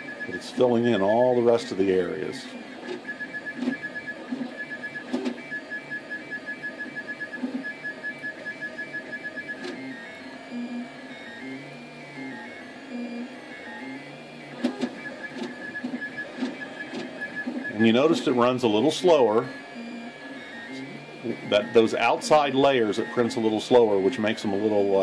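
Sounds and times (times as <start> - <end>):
three d printer stepper motors whining: 0.0 - 25.0.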